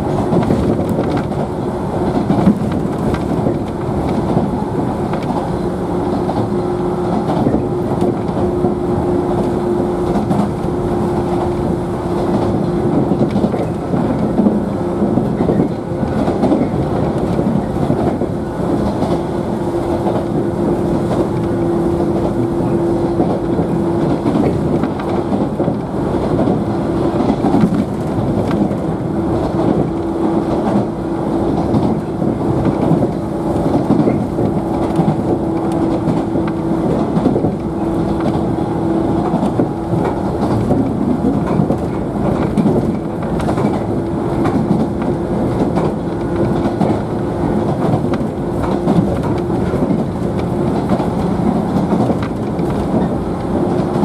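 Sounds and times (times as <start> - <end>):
train running gear hum: 0.0 - 54.0
train wheels rumbling on rail: 0.0 - 54.0
wheels clicking over rail joints: 0.0 - 54.0.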